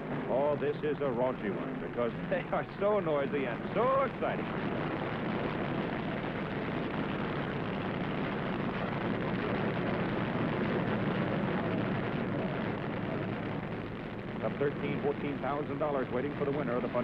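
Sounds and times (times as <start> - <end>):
drag racing engines running: 0.2 - 17.0.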